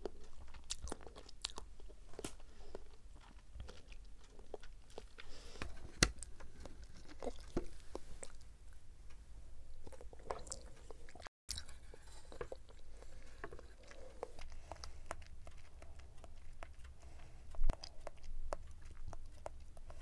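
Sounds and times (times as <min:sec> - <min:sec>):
chewing jelly: 0:00.0 - 0:08.5, 0:09.8 - 0:20.0.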